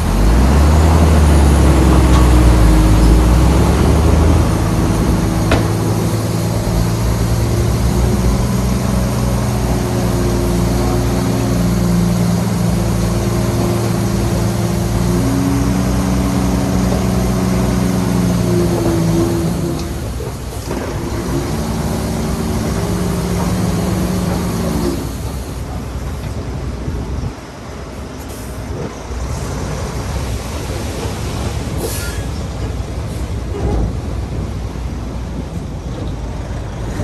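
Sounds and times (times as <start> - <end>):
bulldozer diesel engine rumbling: 0.0 - 37.0.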